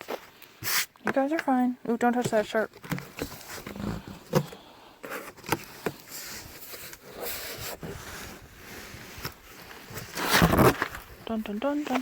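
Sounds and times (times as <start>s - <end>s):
cardboard box rustling and scraping: 2.2s - 12.0s.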